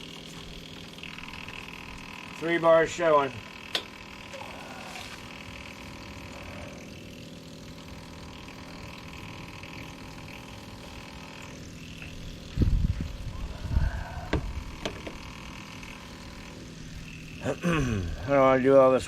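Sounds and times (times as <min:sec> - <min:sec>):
pump motor humming: 0:00.0 - 0:19.0.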